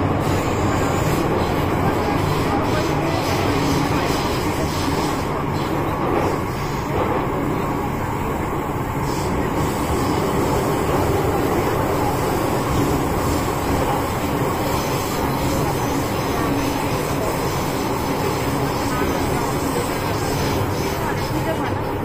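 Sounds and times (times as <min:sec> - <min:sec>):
metro train rumbling: 0:00.0 - 0:22.0.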